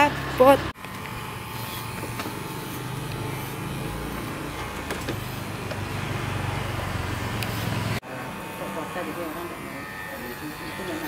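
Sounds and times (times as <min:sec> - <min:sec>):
electric clippers buzzing: 0:00.0 - 0:11.0.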